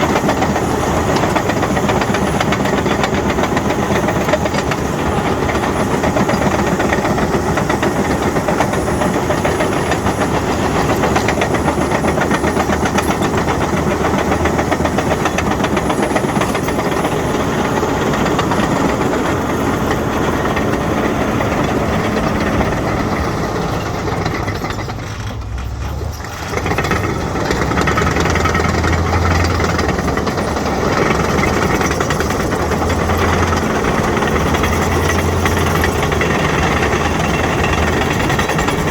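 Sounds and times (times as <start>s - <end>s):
bulldozer diesel engine under load: 0.0s - 38.9s
steel tracks clanking: 0.0s - 38.9s.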